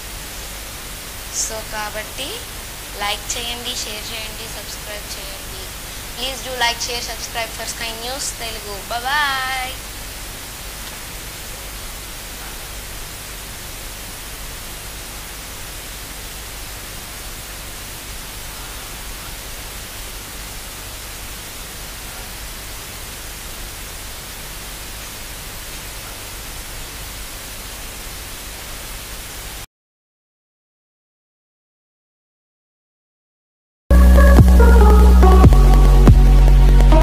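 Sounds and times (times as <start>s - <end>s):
static hiss: 0.0s - 29.7s.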